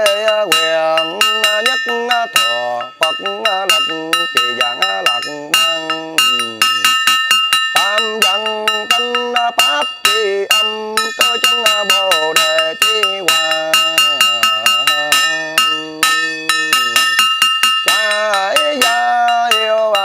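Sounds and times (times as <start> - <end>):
person chanting: 0.0 - 7.0, 7.8 - 17.2, 17.9 - 20.0
ringing metal percussion strikes: 0.0 - 20.0.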